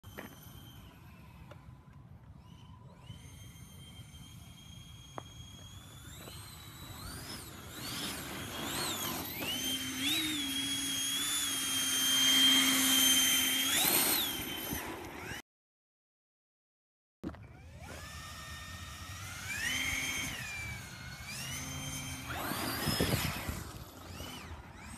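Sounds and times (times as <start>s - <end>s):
electric ducted fan whine: 0.1s - 15.4s, 17.8s - 24.9s.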